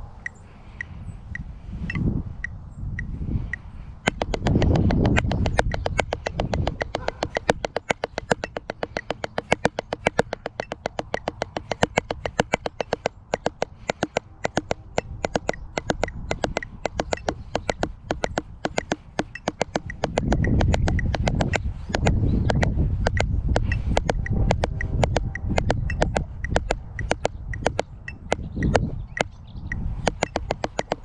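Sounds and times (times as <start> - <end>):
drumsticks striking practice pad: 4.1 - 28.5, 30.1 - 31.0.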